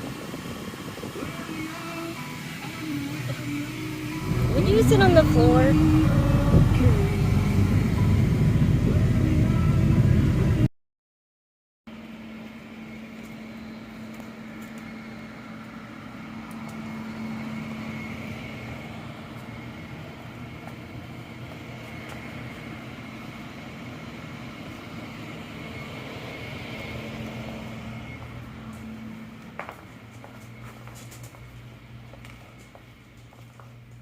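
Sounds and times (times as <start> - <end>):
steady mechanical hum: 0.0 - 10.7, 11.9 - 34.0.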